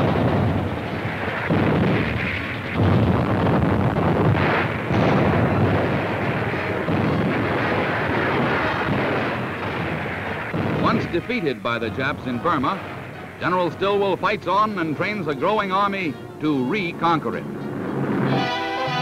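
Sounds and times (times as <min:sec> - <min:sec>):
gunfire: 0:00.0 - 0:15.6
artillery blasts: 0:00.0 - 0:18.5.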